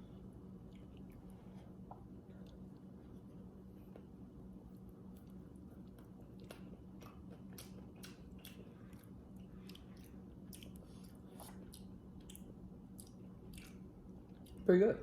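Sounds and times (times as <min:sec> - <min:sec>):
person chewing a cookie: 0:00.0 - 0:14.7.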